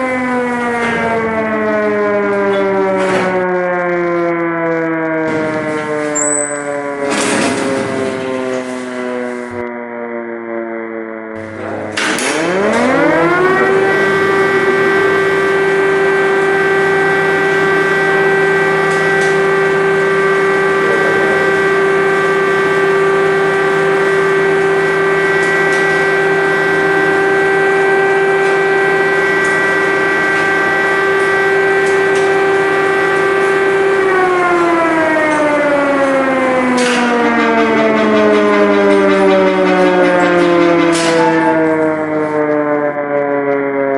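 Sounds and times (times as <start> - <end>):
air-raid siren wailing: 0.0 - 43.9.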